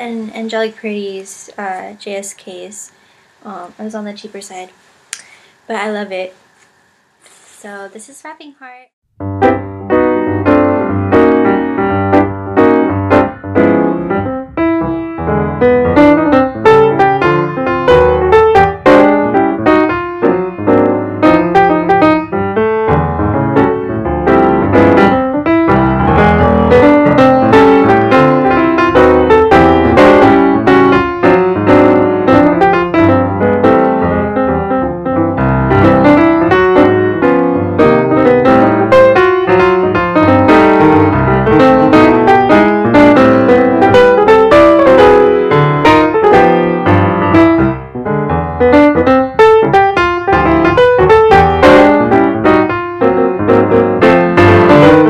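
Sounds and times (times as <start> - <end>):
piano music: 9.0 - 55.0.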